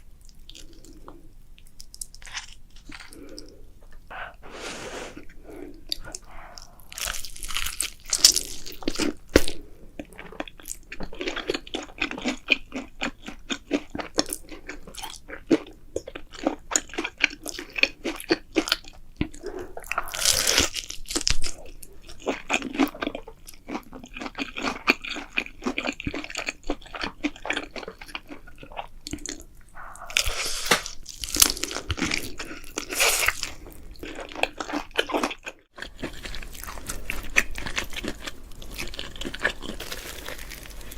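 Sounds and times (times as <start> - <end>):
chewing crunchy food: 0.2 - 4.4, 5.2 - 40.9.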